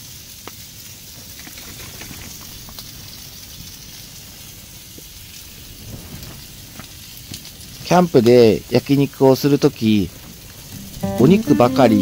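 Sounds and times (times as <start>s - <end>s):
chicken sizzling on griddle: 0.0s - 12.0s.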